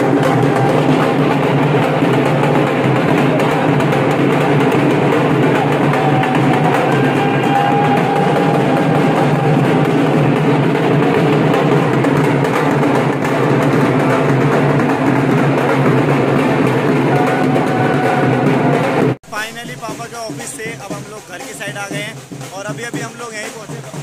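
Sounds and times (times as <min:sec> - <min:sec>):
drum beating a dance rhythm: 0:00.0 - 0:24.0.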